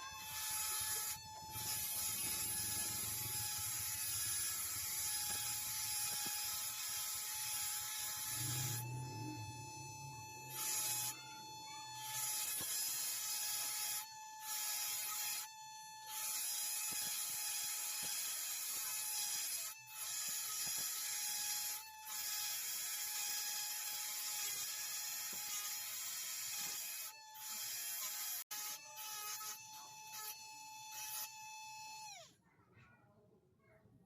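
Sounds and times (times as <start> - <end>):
small power tool whining: 0.0 - 32.3.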